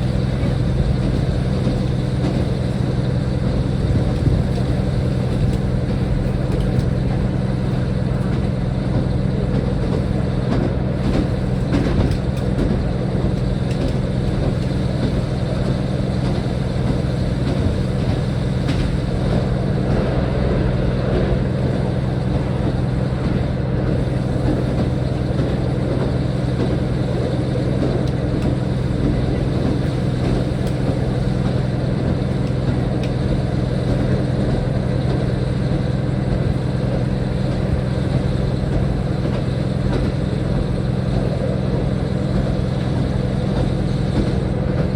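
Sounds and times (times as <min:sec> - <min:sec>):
diesel train running: 0:00.0 - 0:44.9.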